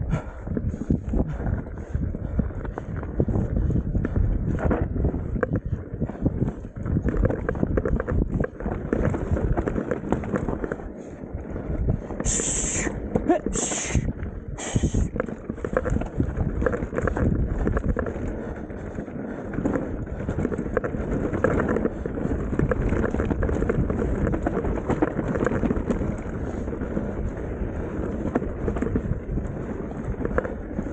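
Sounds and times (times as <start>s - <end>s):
mountain bike rattling on trail: 0.0s - 30.9s
wind on microphone: 0.0s - 30.9s.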